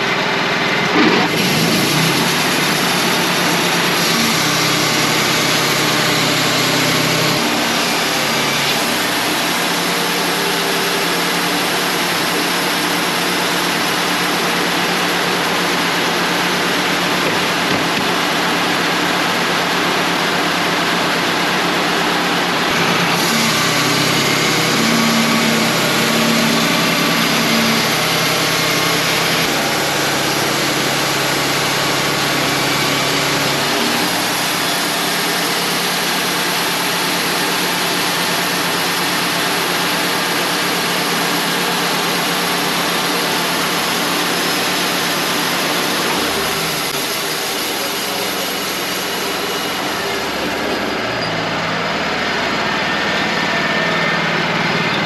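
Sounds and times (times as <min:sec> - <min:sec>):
sawmill engine running: 0:00.0 - 0:55.0
band blade sawing log: 0:00.9 - 0:18.8, 0:22.7 - 0:51.1.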